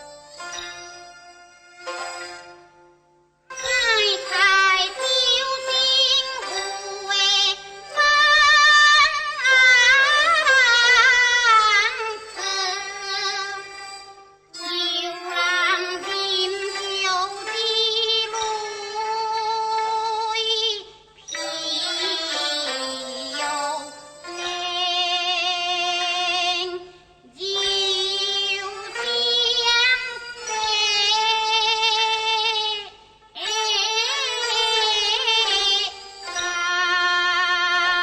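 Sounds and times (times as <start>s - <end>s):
instrumental accompaniment: 0.0s - 38.0s
opera singing high voice: 3.6s - 14.0s, 14.6s - 38.0s.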